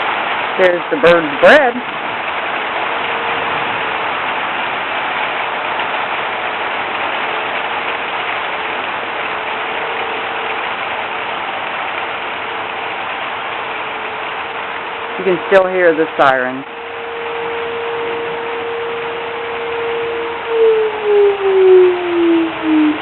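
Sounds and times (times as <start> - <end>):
distant tornado siren wailing: 0.0 - 23.0
heavy rain falling: 0.0 - 23.0.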